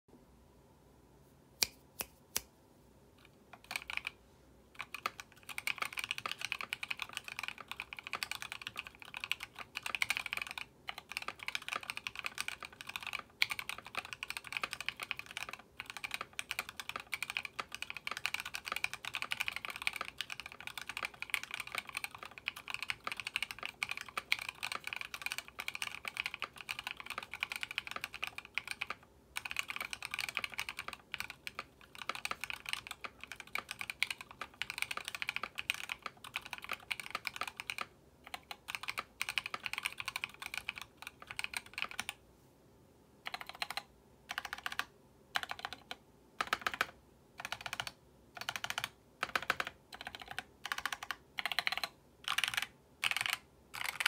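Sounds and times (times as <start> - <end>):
mechanical keyboard typing: 3.2 - 42.2, 43.2 - 54.0.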